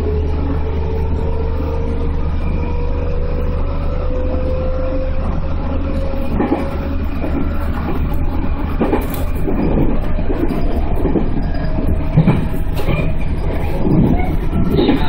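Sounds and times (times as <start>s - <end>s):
electric train rumble and hum: 0.0s - 15.0s.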